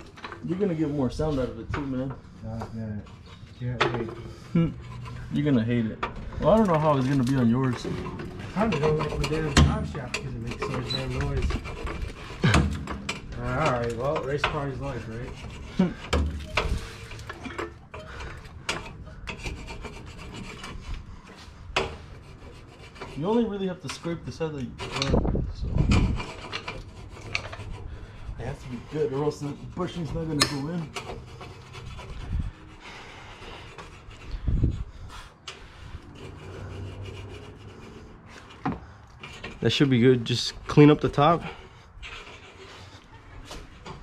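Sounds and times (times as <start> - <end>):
hand scraping metal bore: 0.0 - 44.0.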